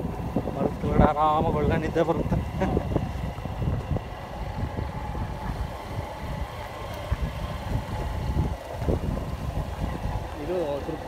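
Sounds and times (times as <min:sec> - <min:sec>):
vehicle rumbling on dirt track: 0:00.0 - 0:11.0
wind buffeting microphone: 0:00.0 - 0:11.0.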